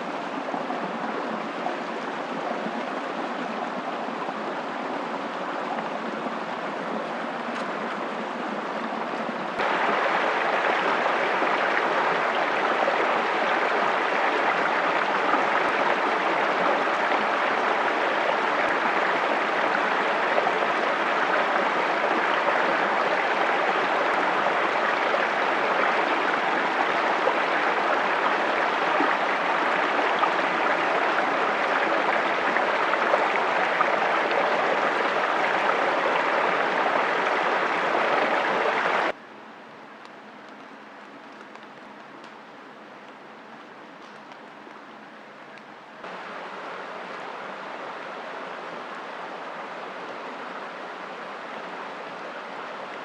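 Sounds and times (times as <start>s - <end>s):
stream water rushing and gurgling: 0.0s - 39.2s, 40.5s - 53.0s.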